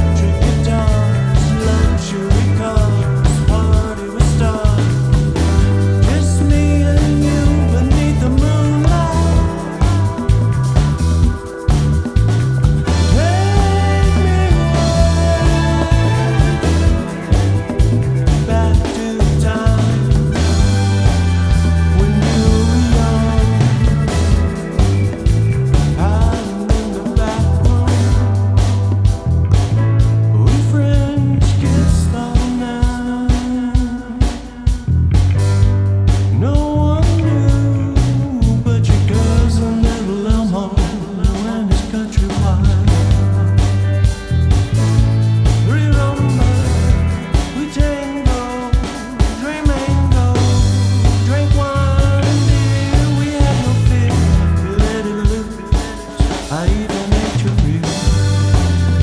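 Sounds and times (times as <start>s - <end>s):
rock music: 0.0s - 59.0s.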